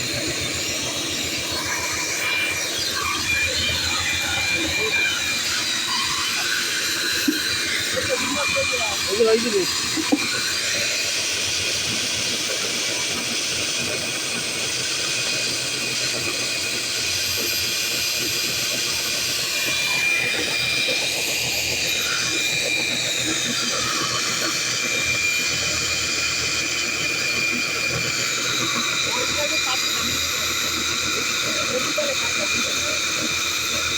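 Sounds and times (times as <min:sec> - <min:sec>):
electric core drill whining: 0:00.0 - 0:33.9.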